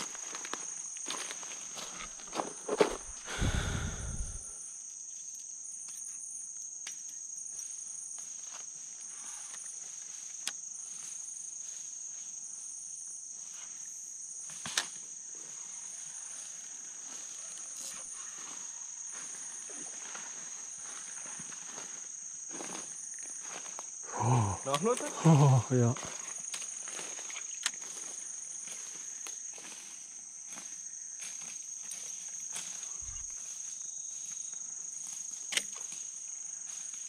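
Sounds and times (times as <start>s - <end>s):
insect chorus: 0.0s - 37.0s
pulsing high insect layer: 0.0s - 37.0s.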